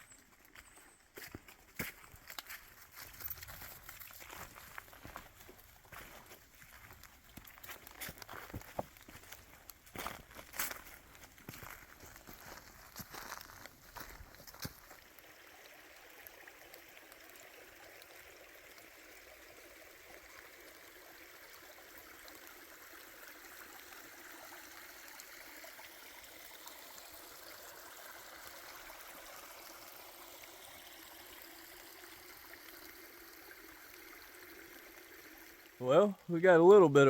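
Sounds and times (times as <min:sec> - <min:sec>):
creek trickling over rocks: 0:00.0 - 0:37.0.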